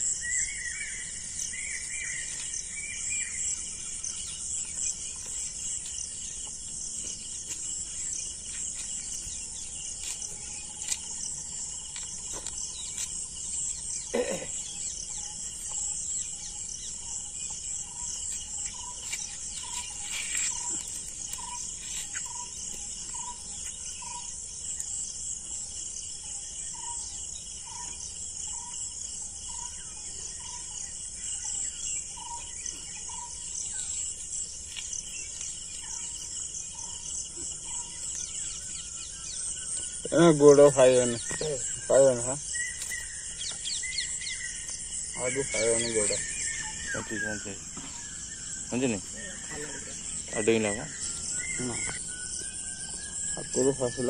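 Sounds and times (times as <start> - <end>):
birds chirping: 0.0 - 54.0
crickets chirping: 0.0 - 54.0.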